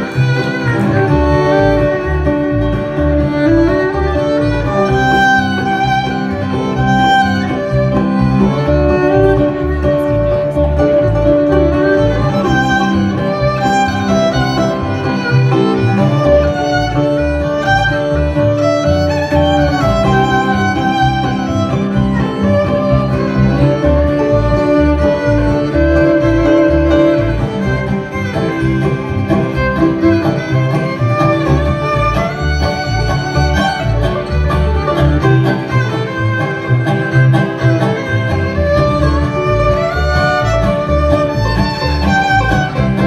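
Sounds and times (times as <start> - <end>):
fiddle lead: 0.0 - 43.0
guitar: 0.0 - 43.0
low bass notes: 0.0 - 43.0.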